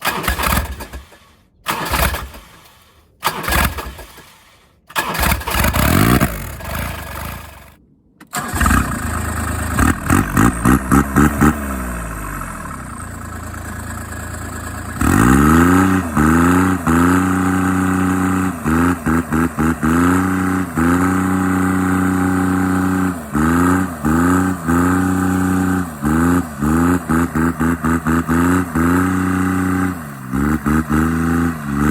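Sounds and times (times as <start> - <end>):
diesel engine revving: 0.0 - 31.9.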